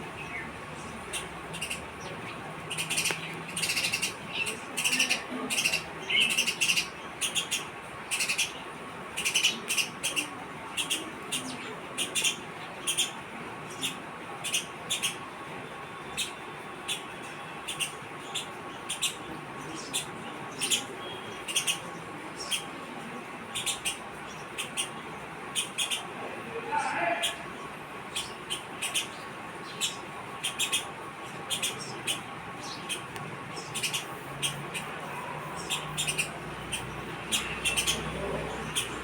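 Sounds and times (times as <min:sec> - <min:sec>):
sparrows chirping: 0:00.0 - 0:39.0.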